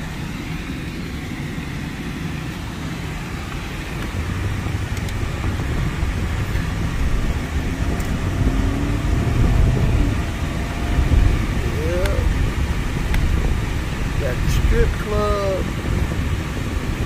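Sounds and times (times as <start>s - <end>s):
vehicle cabin engine and road rumble: 0.0s - 17.0s.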